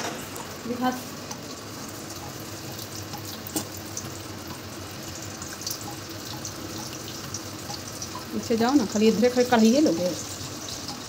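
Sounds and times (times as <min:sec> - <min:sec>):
frying in hot oil sizzling: 0:00.0 - 0:11.0.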